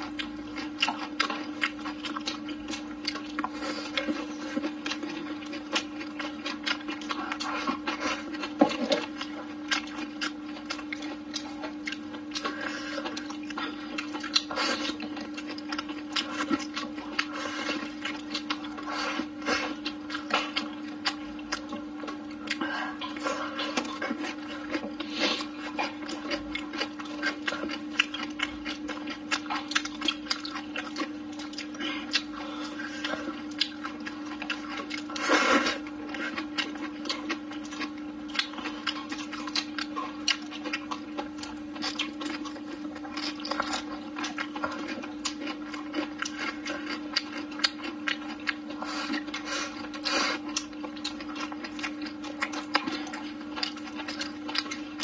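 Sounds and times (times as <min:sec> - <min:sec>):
person chewing and smacking: 0:00.0 - 0:55.0
steady hum: 0:00.0 - 0:55.0.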